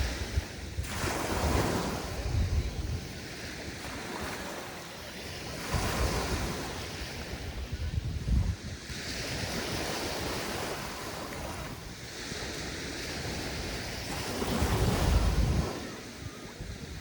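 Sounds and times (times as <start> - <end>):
waves washing on sandy beach: 0.0 - 17.0
wind rumbling on microphone: 0.0 - 17.0.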